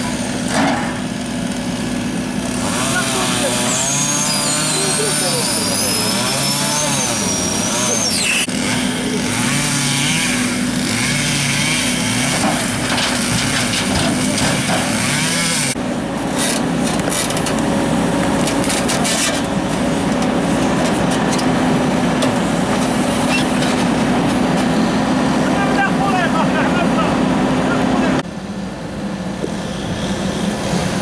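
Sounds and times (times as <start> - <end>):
backhoe engine running: 0.0 - 31.0.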